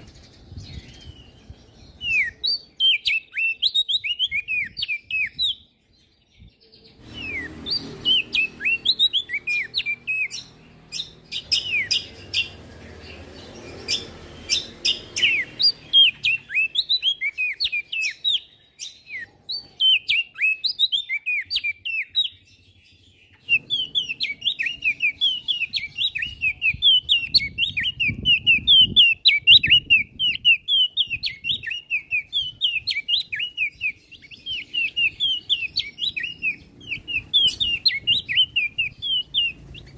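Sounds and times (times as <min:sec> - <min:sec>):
songbird chattering chirps: 0:00.0 - 0:39.9.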